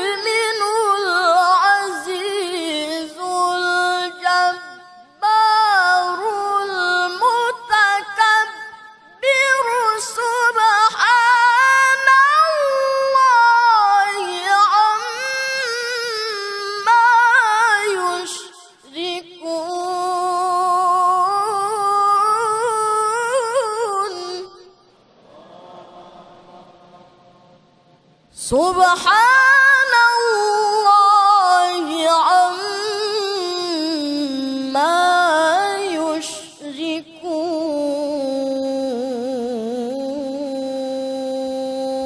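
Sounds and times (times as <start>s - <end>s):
man chanting recitation: 0.0s - 24.6s, 28.4s - 42.0s.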